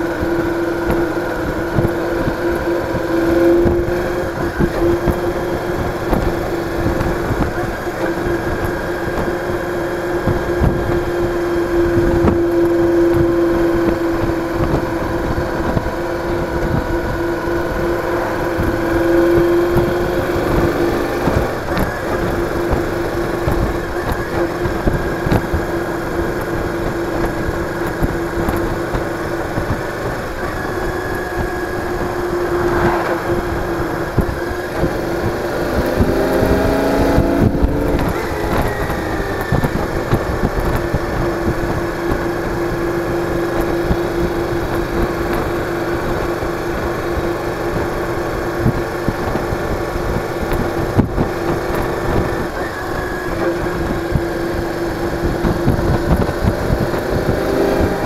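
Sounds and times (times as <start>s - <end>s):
motorcycle engine cruising: 0.0s - 58.0s
road and wind noise: 0.0s - 58.0s.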